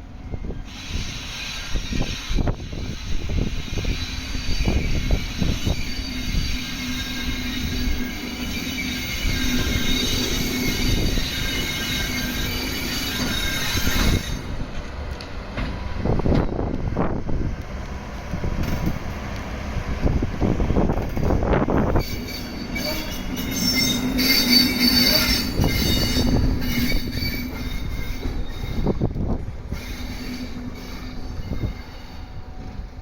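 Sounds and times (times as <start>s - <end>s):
locomotive hum: 0.0s - 33.0s
wind: 0.0s - 33.0s
wheels squealing on rails: 0.2s - 17.2s, 18.2s - 33.0s.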